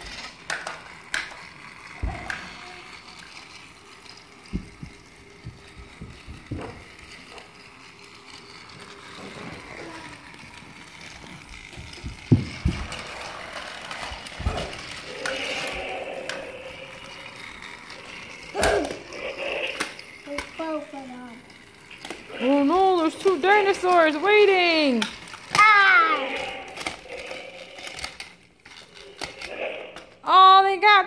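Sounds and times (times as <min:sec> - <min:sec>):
toy train knocking on track: 0:00.0 - 0:27.0
toy train whirring: 0:00.0 - 0:31.0.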